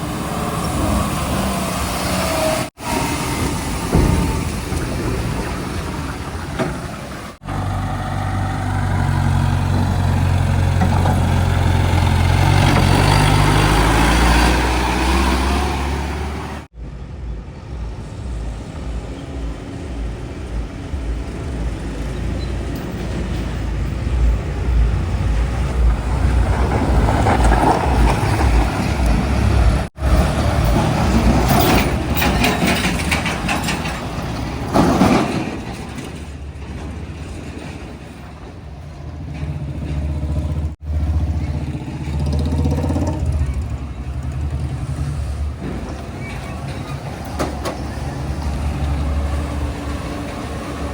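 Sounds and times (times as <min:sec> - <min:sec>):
heavy diesel engine under load: 0:00.0 - 0:50.9.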